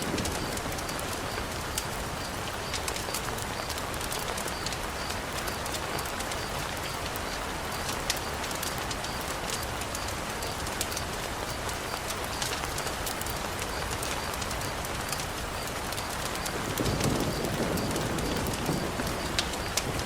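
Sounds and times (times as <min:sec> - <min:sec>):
heavy rain hissing: 0:00.0 - 0:20.0
raindrops ticking close by: 0:00.0 - 0:20.0.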